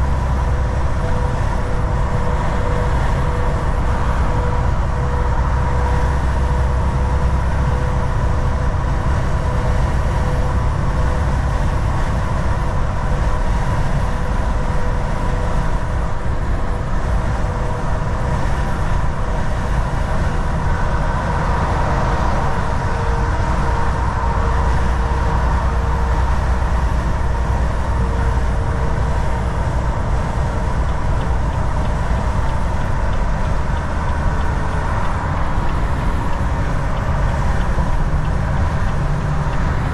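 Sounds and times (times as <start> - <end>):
faint steady whine: 0.0 - 39.9
truck engine drone: 0.0 - 39.9
tyre and road noise: 0.0 - 39.9.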